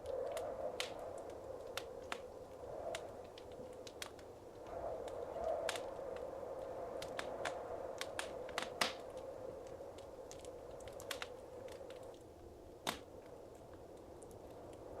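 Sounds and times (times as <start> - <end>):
wood fire pops and snaps: 0.0 - 12.2, 12.8 - 15.0
soft hiss of flames: 0.0 - 15.0.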